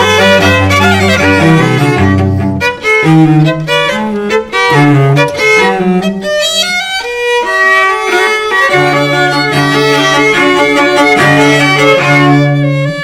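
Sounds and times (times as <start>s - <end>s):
cello: 0.0s - 13.0s
viola: 0.0s - 13.0s
violin: 0.0s - 13.0s.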